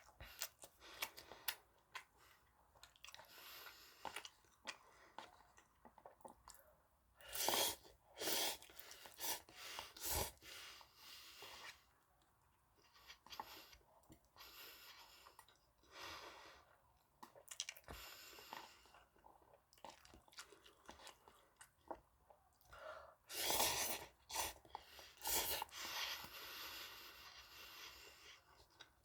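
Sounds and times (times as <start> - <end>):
close chewing of noodles: 0.0 - 29.0.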